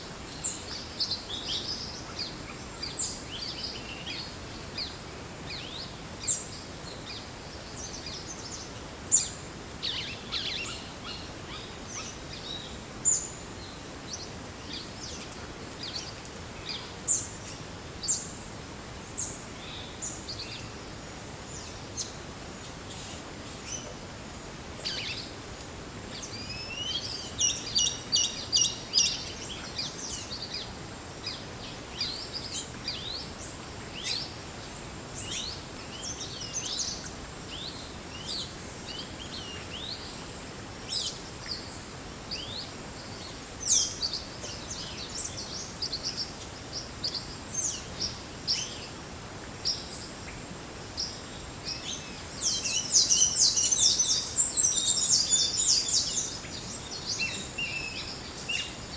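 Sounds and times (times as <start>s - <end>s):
background hiss: 0.0s - 58.9s
forest birds chirping: 0.0s - 58.9s.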